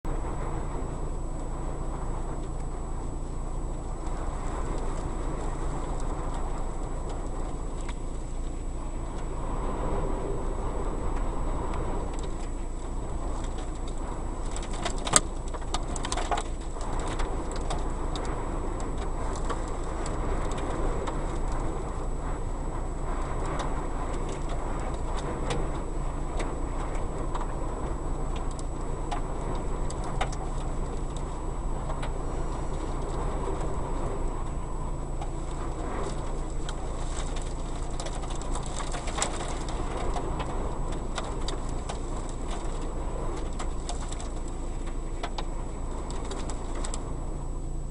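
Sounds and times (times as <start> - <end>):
wind blowing over microphone: 0.0 - 47.9.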